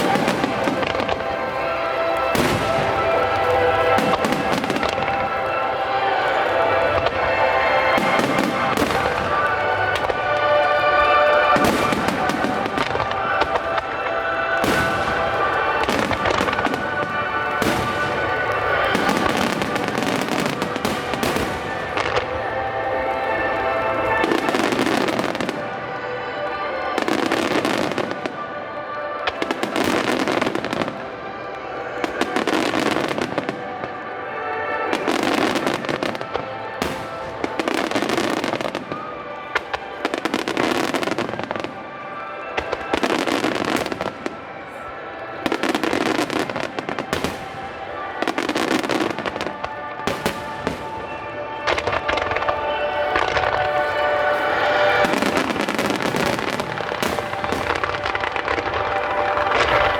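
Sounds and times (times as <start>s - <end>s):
fireworks bursting and crackling: 0.0s - 59.9s
music over loudspeakers: 0.0s - 59.9s.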